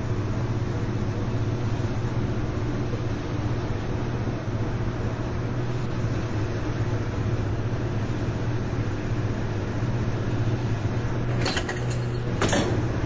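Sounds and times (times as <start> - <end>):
washing machines running: 0.0 - 13.0.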